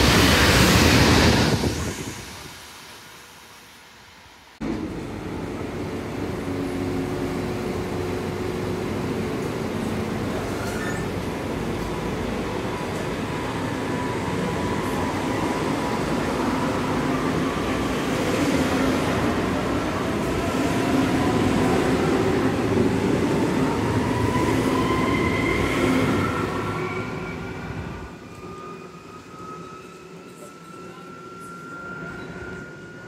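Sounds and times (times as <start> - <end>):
train wheel and rail rumble: 0.0 - 33.0.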